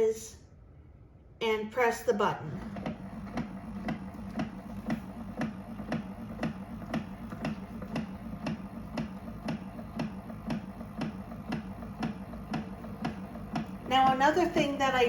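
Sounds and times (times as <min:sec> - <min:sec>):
coffee brewer pump hum: 0:02.4 - 0:15.0
regular ticking: 0:02.7 - 0:15.0.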